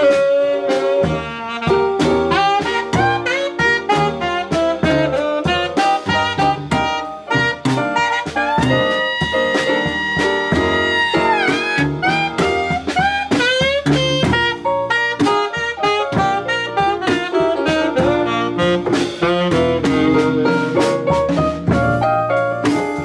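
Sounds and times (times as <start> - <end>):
instrumental jazz: 0.0 - 23.0
steady drum beat: 0.0 - 23.0.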